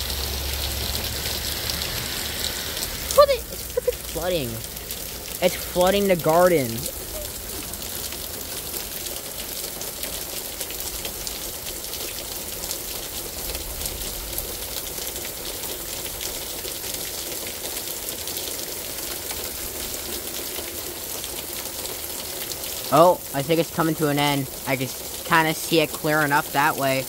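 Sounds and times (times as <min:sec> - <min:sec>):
heavy rain downpour: 0:00.0 - 0:27.0.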